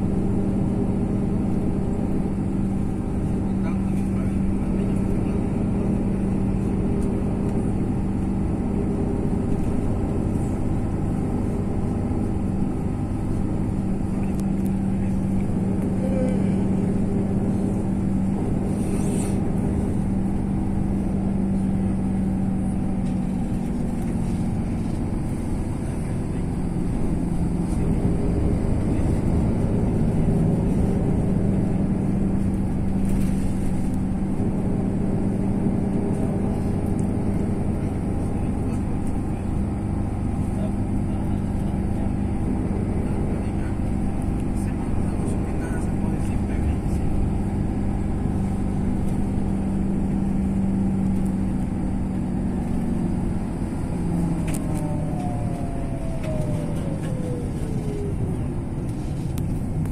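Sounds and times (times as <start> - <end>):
road noise inside cabin: 0.0 - 59.9
vehicle engine drone: 0.0 - 59.9.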